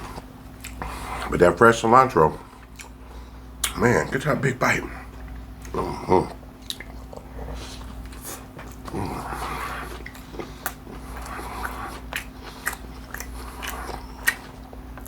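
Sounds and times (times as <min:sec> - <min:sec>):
chewing with wet mouth sounds: 0:00.0 - 0:01.5, 0:02.3 - 0:15.0.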